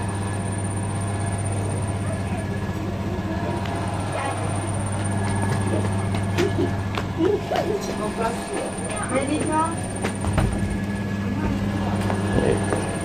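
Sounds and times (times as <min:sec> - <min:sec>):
low hum of shop interior: 0:00.0 - 0:13.0.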